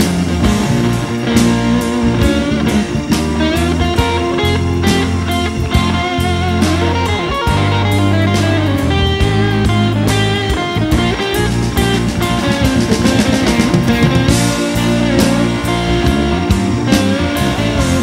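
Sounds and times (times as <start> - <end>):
blues-rock music: 0.0 - 18.0.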